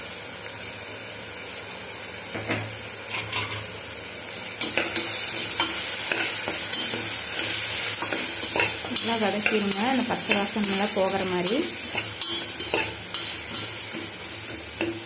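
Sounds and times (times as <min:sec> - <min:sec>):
spices sizzling in oil: 0:00.0 - 0:15.0.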